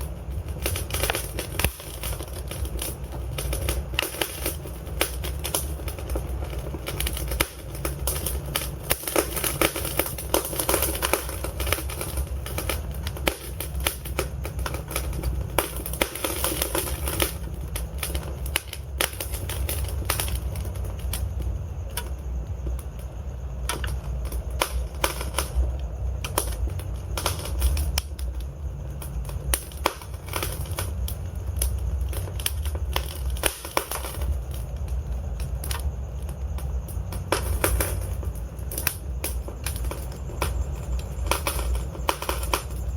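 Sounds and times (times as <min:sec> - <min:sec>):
log fire crackling: 0:00.0 - 0:42.9
low rumble of flames: 0:00.0 - 0:42.9
sharp pops and snaps: 0:00.0 - 0:42.9.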